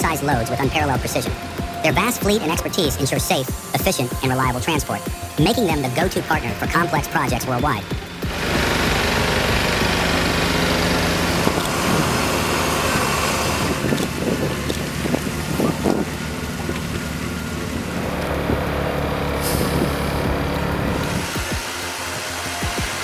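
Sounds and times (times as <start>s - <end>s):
continuous rushing noise: 0.0s - 23.0s
truck diesel engines running: 0.0s - 23.0s.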